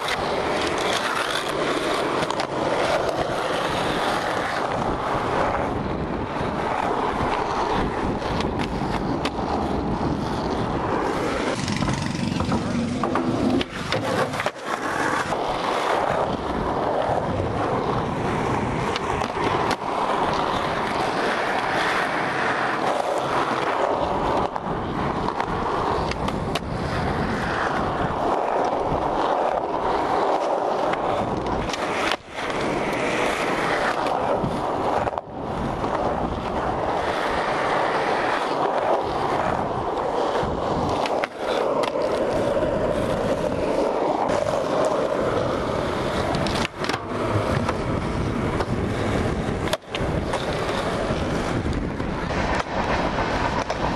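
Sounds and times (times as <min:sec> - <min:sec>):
skateboard clacks: 0:00.0 - 0:53.9
skateboard wheels rolling on asphalt: 0:00.0 - 0:53.9.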